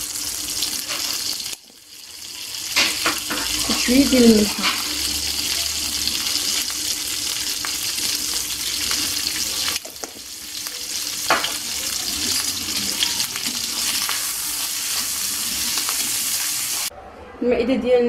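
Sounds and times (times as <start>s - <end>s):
shrimp sizzling in a frying pan: 0.0s - 16.9s.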